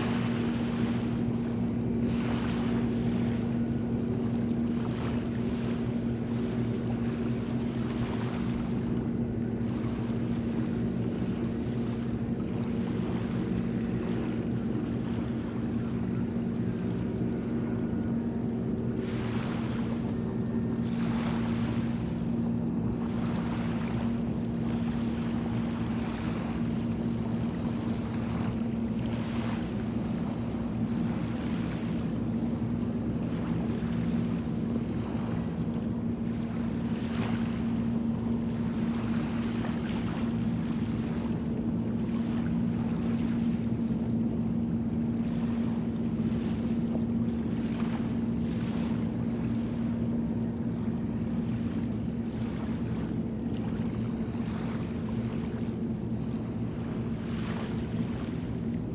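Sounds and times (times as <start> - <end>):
boat engine drone: 0.0 - 58.9
waves washing: 0.0 - 58.9.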